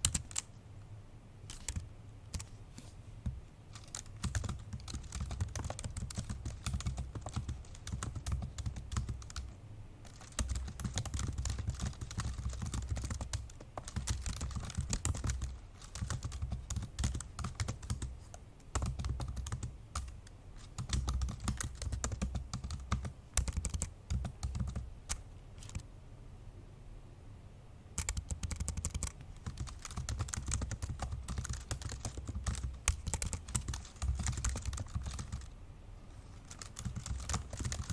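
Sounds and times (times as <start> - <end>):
fast laptop keyboard typing: 0.0 - 0.5, 1.5 - 2.5, 3.7 - 25.8, 28.0 - 35.5, 36.4 - 37.9.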